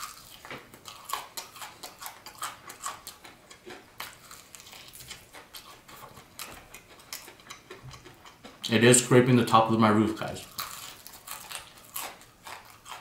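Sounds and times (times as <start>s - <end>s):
fried chicken crust crunching: 0.0s - 8.9s, 9.6s - 13.0s.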